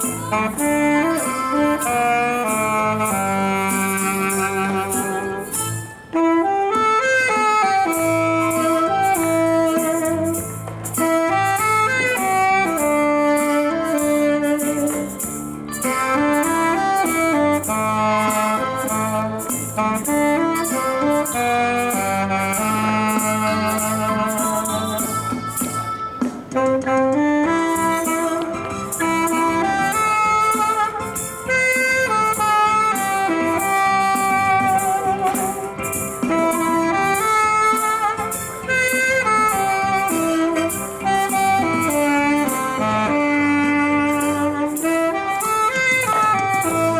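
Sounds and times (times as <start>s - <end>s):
bass line: 0.0s - 5.9s, 7.9s - 46.9s
band accompaniment: 0.0s - 46.9s
tenor saxophone melody: 0.0s - 46.9s.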